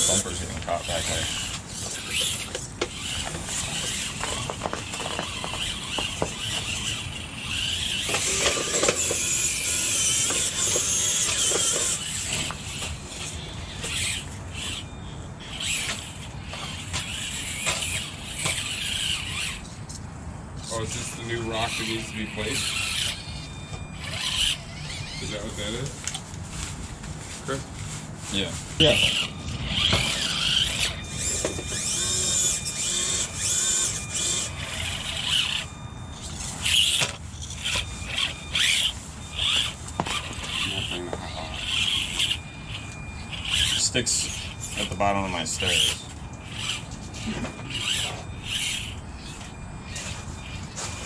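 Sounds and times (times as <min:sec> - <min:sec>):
tires scraping on stone: 0:00.0 - 0:20.0, 0:20.6 - 0:51.0
small electric motors whining: 0:00.0 - 0:51.0.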